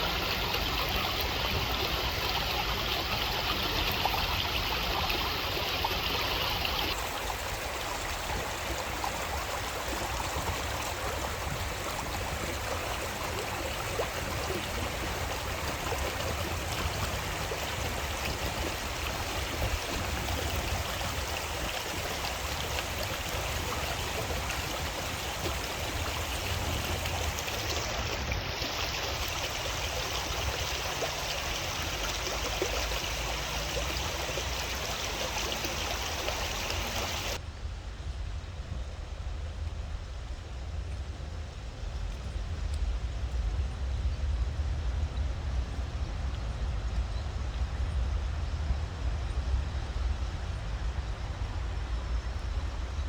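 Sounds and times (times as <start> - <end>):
creek water rushing and gurgling: 0.0 - 37.4, 40.4 - 53.0.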